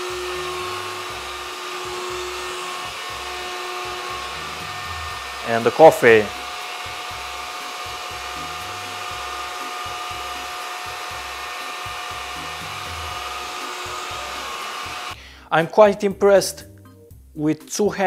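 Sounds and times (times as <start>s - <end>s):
stick vacuum cleaner whirring: 0.0s - 15.2s.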